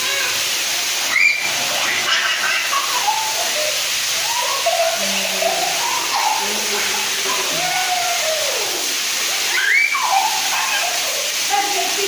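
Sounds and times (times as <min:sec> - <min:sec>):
children shouting: 0:00.0 - 0:11.6
water pouring and splashing: 0:00.0 - 0:12.0.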